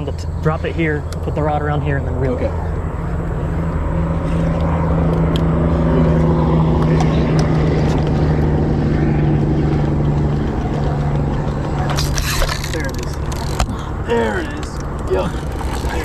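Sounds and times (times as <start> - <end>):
small boat motor humming: 0.0 - 16.0.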